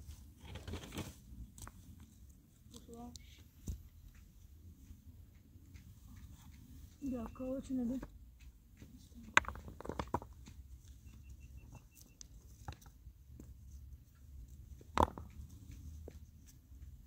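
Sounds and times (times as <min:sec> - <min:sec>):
sharp clicks and knocks: 0:00.4 - 0:17.0
faint high ticks: 0:01.5 - 0:09.4, 0:10.3 - 0:17.0.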